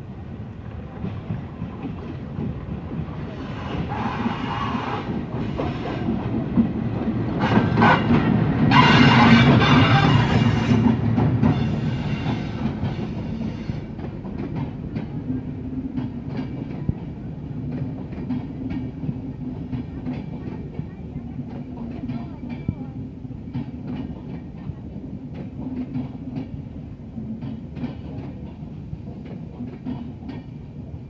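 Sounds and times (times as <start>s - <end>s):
train wheel and rail noise: 0.0s - 31.0s.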